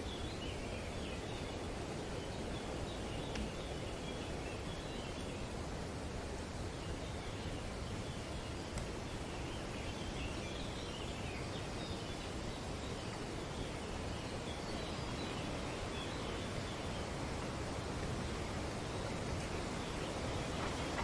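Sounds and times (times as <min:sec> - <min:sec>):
wind rustling through foliage: 0:00.0 - 0:21.0.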